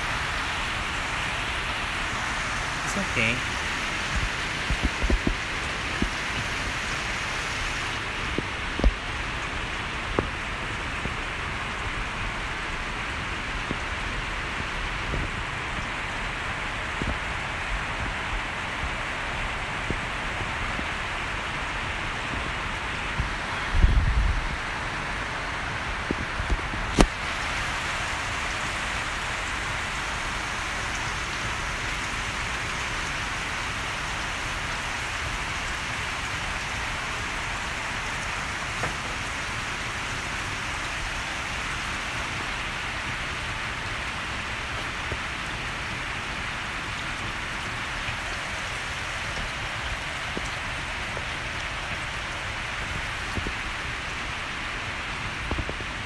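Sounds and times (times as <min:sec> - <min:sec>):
steady rushing hiss: 0:00.0 - 0:14.5, 0:24.5 - 0:56.0.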